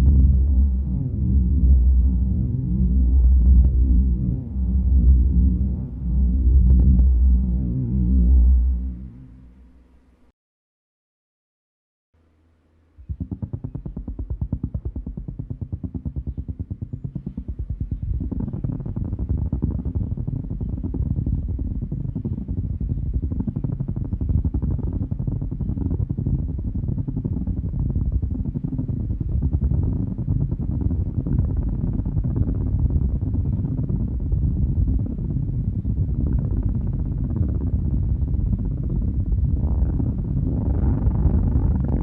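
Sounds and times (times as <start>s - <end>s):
spaceship engine rumble: 0.0s - 9.8s, 13.0s - 42.0s.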